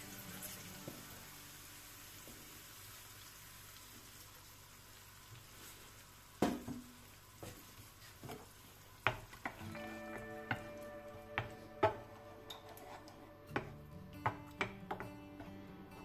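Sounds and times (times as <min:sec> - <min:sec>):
food sizzling in a frying pan: 0:00.0 - 0:15.5.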